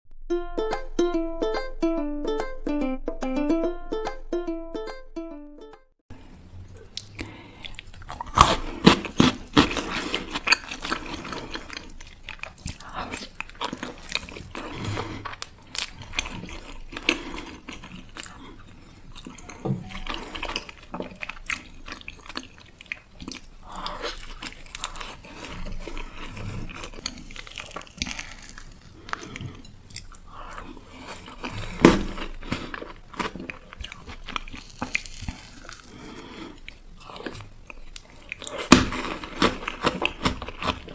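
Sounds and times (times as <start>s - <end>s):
crunchy bites and chewing: 6.9s - 40.9s.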